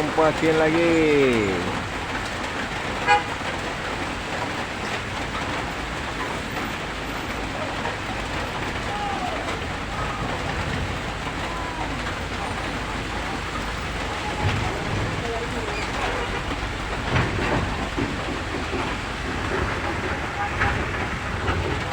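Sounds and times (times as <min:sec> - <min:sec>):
heavy rain falling: 0:00.0 - 0:21.9
road traffic: 0:00.0 - 0:21.9.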